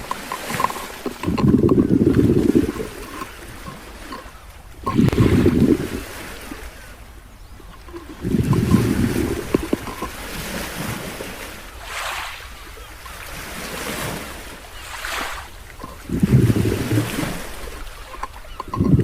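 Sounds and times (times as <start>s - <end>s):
sea waves washing: 0.0s - 19.0s
wind buffeting microphone: 0.0s - 19.0s.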